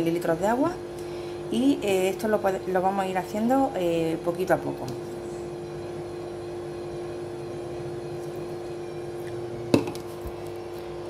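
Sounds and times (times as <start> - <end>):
low hum with held tones: 0.0 - 11.0.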